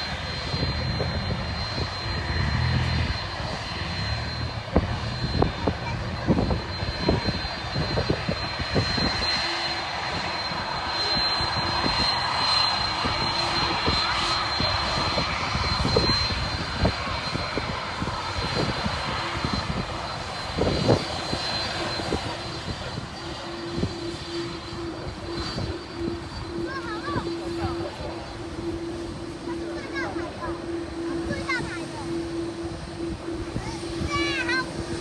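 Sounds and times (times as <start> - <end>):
jet engines roaring with whine: 0.0 - 35.0.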